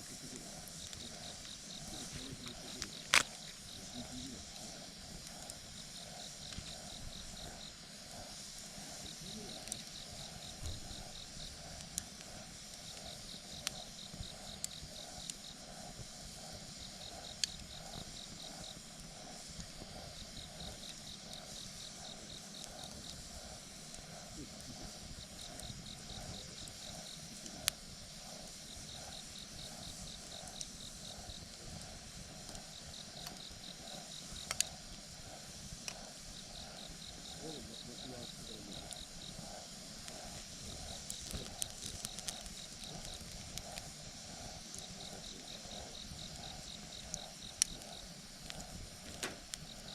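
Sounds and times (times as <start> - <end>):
campfire crackling: 0.0 - 49.9
fire pops: 0.0 - 49.9
insects trilling: 0.0 - 49.9.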